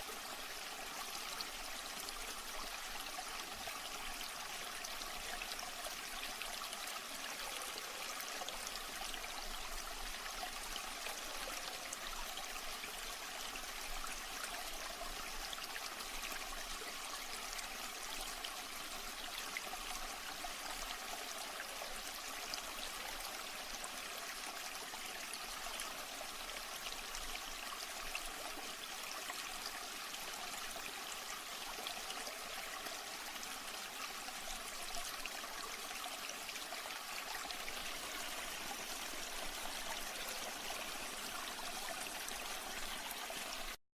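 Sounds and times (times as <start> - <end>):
water babbling and trickling: 0.0 - 43.8.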